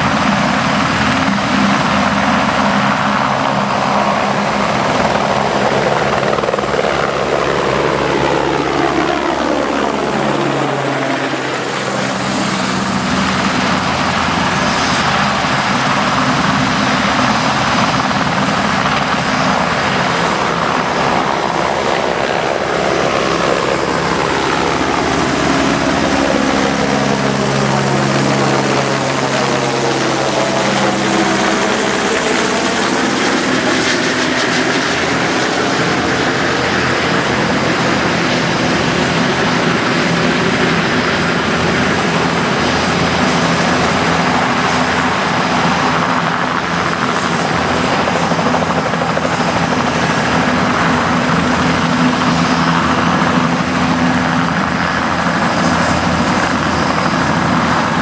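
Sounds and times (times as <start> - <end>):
helicopter rotors and turbine whine: 0.0 - 58.0.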